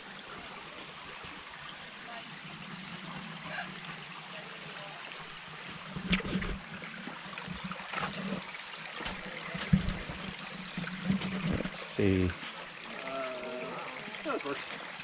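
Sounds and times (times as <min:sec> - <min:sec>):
creek trickling over rocks: 0:00.0 - 0:15.0.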